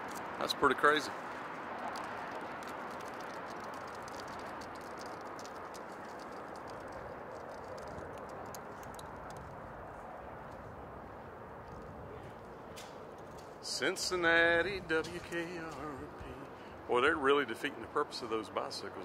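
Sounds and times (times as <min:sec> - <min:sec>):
city background hum: 0:00.0 - 0:19.0.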